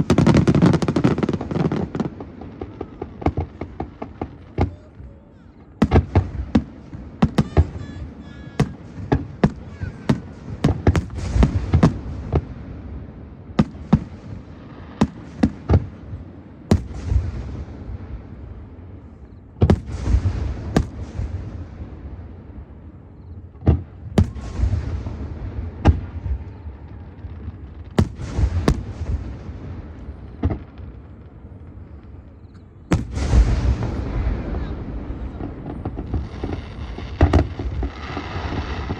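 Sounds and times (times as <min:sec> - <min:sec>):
crackling hiss of fireworks: 0:00.0 - 0:38.9.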